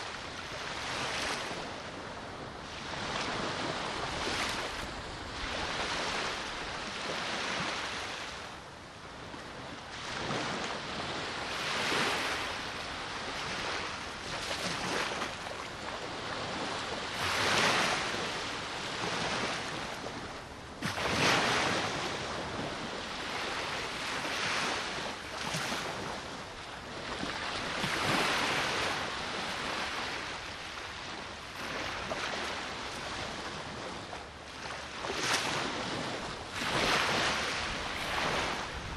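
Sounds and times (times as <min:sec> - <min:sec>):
sea waves breaking ashore: 0:00.0 - 0:38.9.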